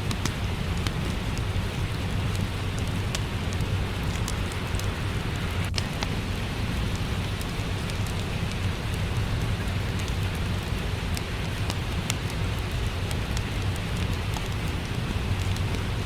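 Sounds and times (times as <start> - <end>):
steady rain: 0.0 - 16.0
wood fire crackling: 0.0 - 16.0.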